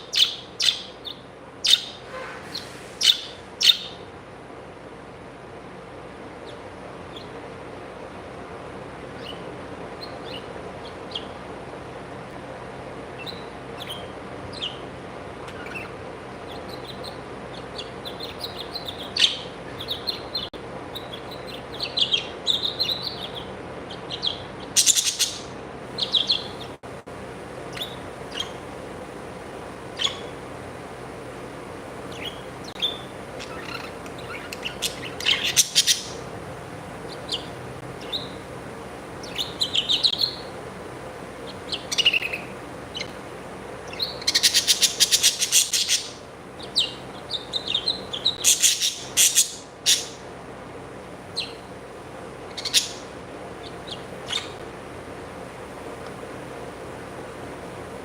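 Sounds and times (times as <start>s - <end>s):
birds chirping: 0.0s - 57.1s.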